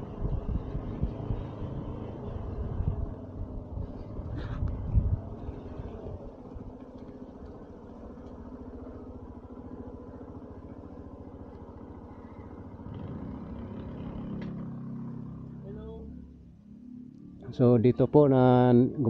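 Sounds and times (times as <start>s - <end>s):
engine running with low pulsing: 0.0s - 19.0s.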